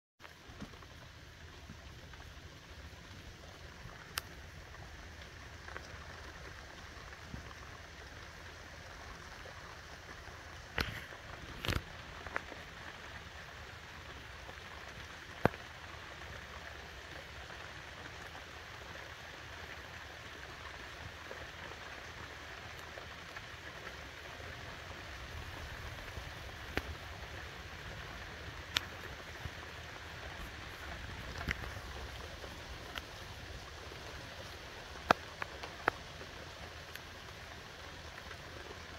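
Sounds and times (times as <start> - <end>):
rain falling: 0.2 - 38.9.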